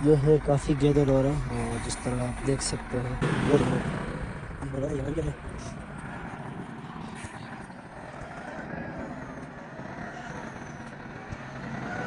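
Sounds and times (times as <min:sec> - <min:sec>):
roadside vehicle noise: 0:00.0 - 0:12.0.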